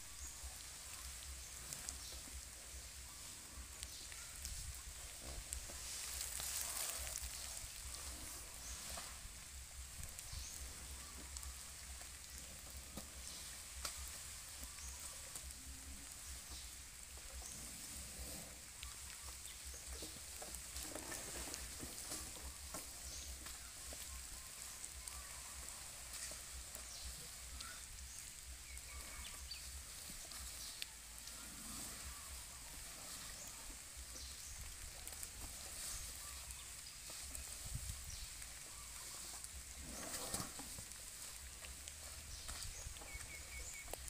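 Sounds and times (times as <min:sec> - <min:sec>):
light rain hissing: 0:00.0 - 0:44.0.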